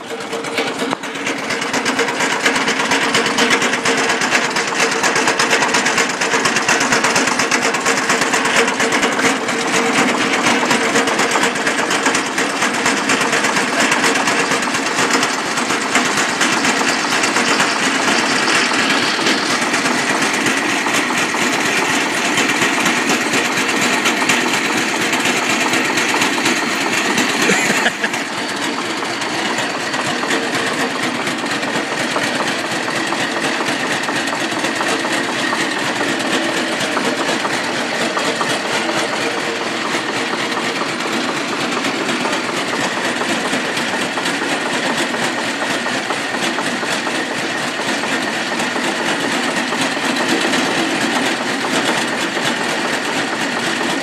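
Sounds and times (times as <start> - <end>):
saw rig mechanical clatter: 0.0 - 54.0
tractor engine running: 0.0 - 54.0.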